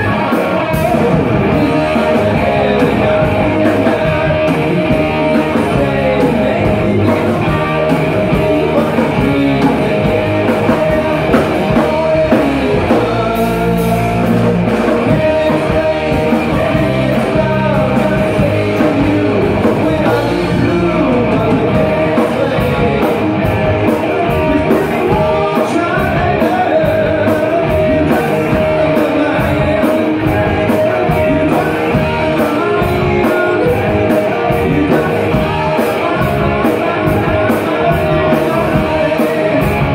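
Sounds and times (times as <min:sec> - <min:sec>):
distorted electric guitars: 0:00.0 - 0:39.9
drum kit: 0:00.0 - 0:39.9
man singing: 0:00.0 - 0:39.9.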